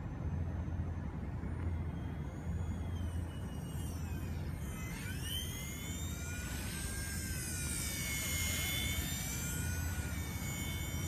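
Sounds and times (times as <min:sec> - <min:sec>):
low steady rumble: 0:00.0 - 0:11.0
toy helicopter rotors whining: 0:00.0 - 0:11.0.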